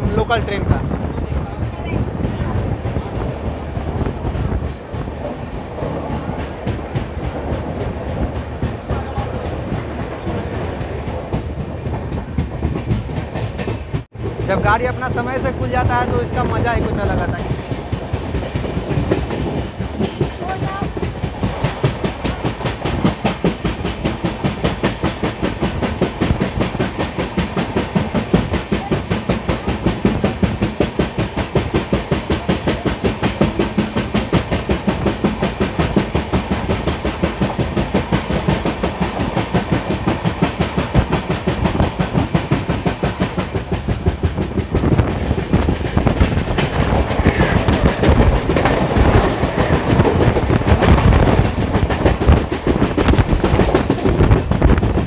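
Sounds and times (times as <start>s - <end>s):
train wheels clattering: 0.0s - 55.0s.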